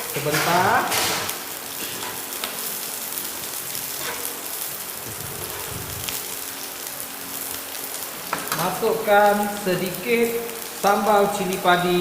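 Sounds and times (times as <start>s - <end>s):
beans sizzling in hot oil: 0.0s - 12.0s.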